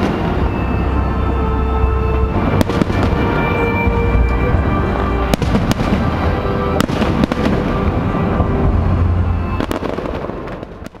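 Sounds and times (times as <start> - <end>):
low rumble: 0.0 - 10.9
fireworks bangs: 0.0 - 11.0.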